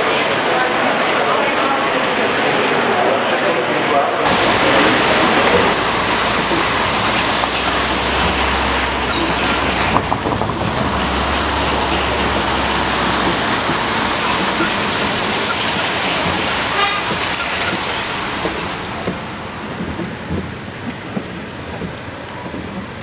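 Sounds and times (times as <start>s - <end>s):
tyres hissing on wet road: 4.2s - 23.0s
low vehicle rumble: 4.3s - 23.0s.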